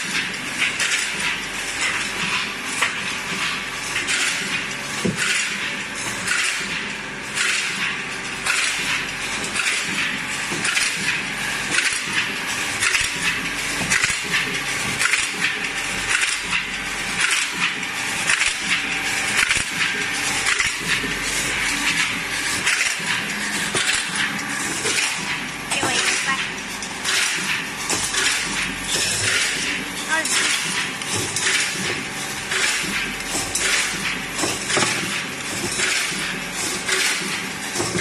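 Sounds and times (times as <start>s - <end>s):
welding machine hum: 0.0s - 38.0s
rapid metallic clacks: 6.2s - 38.0s.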